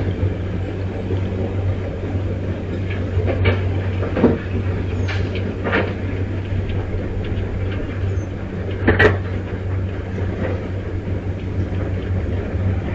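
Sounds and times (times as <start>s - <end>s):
wind gusting on microphone: 0.0s - 12.9s.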